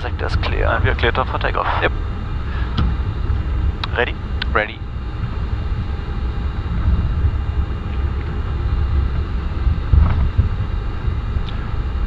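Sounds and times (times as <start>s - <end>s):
airliner engines low rumble: 0.0s - 12.0s.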